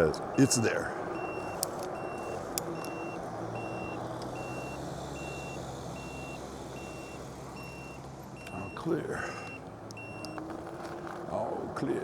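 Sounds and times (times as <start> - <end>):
high electronic beeps: 0.3 - 10.4.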